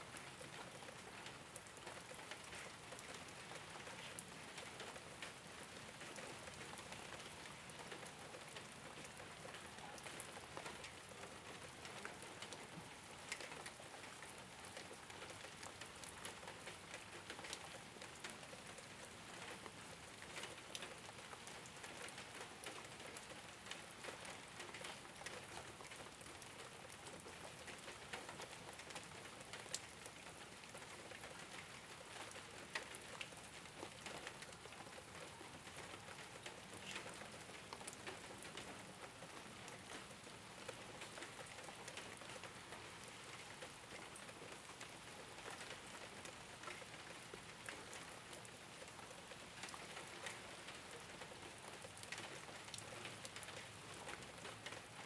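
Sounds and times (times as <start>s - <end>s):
rain on a rooftop: 0.0s - 55.0s.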